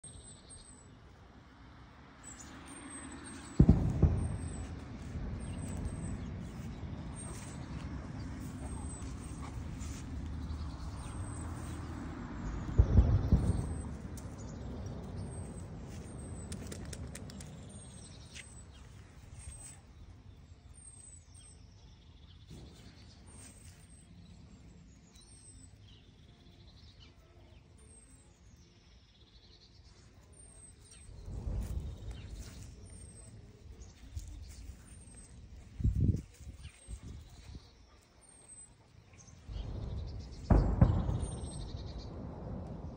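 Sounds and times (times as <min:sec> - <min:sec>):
faint low rumble: 0:00.0 - 0:42.9.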